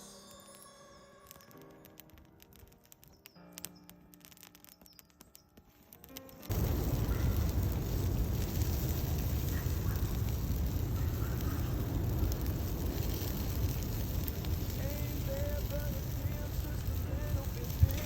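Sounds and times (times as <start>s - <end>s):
campfire burning: 0.0s - 18.0s.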